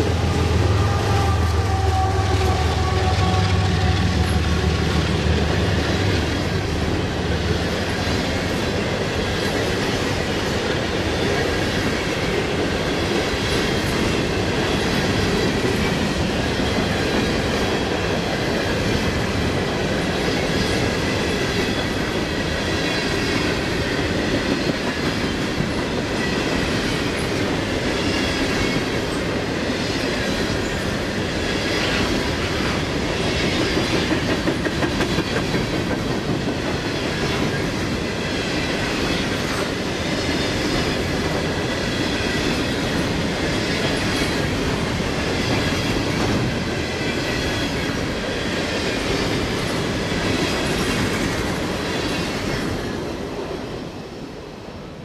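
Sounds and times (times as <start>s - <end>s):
train wheels clickety-clack: 0.0s - 54.3s.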